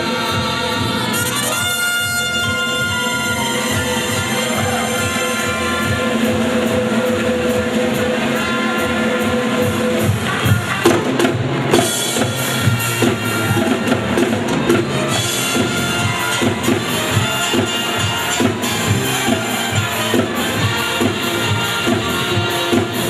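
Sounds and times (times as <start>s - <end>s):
drum-kit beat: 0.0s - 23.0s.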